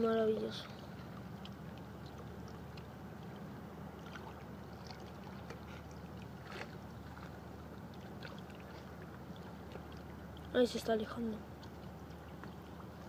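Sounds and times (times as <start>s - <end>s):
small water splashes: 0.0s - 13.0s
small waves lapping against rocks: 0.0s - 13.0s
steady low hum: 0.0s - 13.0s.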